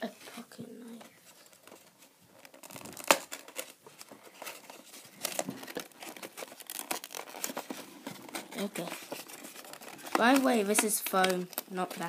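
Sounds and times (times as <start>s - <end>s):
packaging rustling and crinkling: 0.8s - 12.0s.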